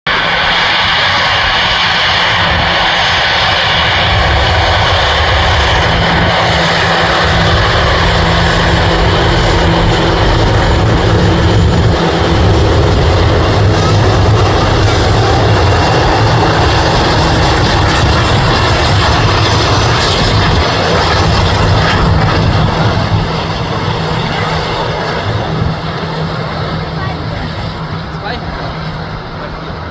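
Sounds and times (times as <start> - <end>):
jet engines running loud: 0.1 - 29.9.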